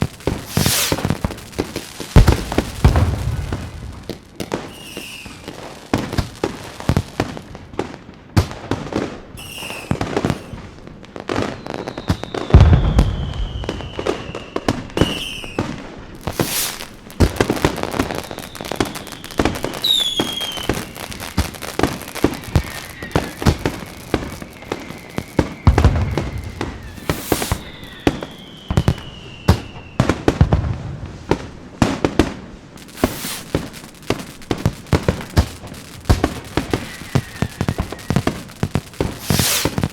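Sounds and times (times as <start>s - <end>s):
falling firework whistles: 0.0s - 7.9s, 8.7s - 39.9s
deep firework booms: 0.0s - 9.1s, 12.0s - 39.9s
fireworks crackling and popping: 0.0s - 39.9s.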